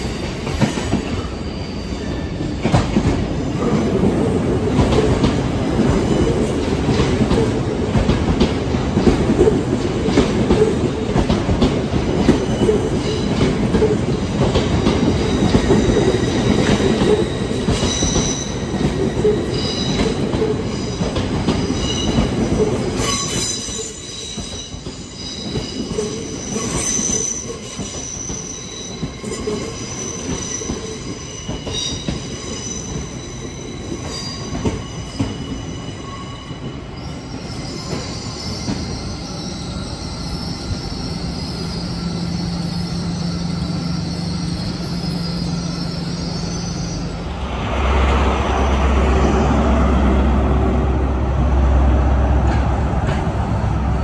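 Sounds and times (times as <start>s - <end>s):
train wheels squealing: 0.0s - 7.9s, 9.0s - 49.3s.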